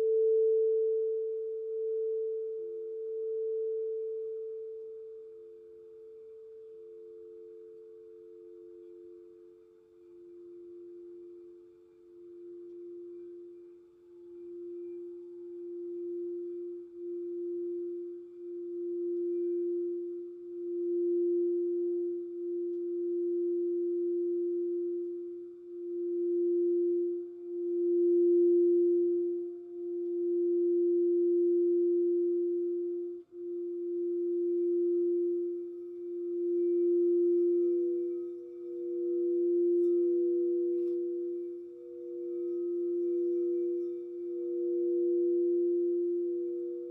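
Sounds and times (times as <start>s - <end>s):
higher singing bowl tone: 0.0s - 46.9s
singing bowl sustained tone: 0.0s - 46.9s.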